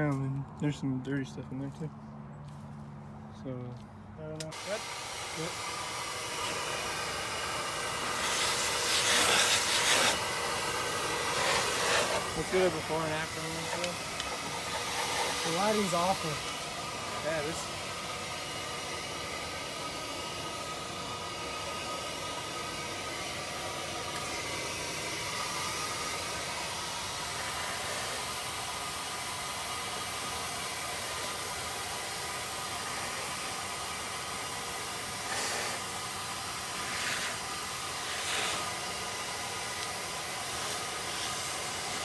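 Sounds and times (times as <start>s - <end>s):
steady hissing noise: 4.5s - 42.0s.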